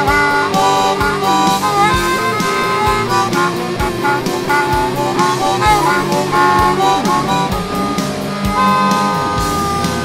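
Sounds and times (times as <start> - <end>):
backing track: 0.0 - 10.0
electric lead guitar: 0.0 - 10.0
harmonica: 0.0 - 10.0
steady drum beat: 0.0 - 10.0.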